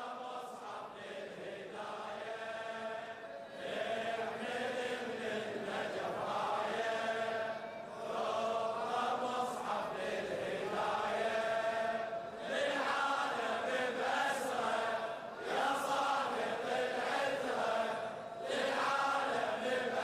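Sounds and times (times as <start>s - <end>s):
voices chanting a mourning refrain: 0.0s - 20.0s.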